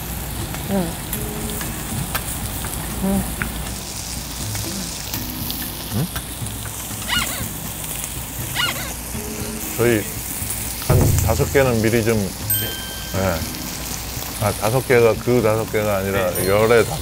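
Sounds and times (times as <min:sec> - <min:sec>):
meat sizzling on grill plate: 0:00.0 - 0:17.0.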